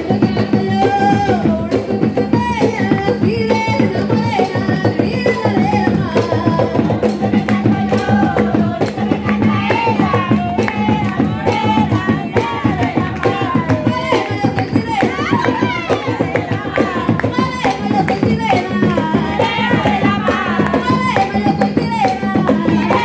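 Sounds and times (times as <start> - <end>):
hand drums beating: 0.0 - 23.0.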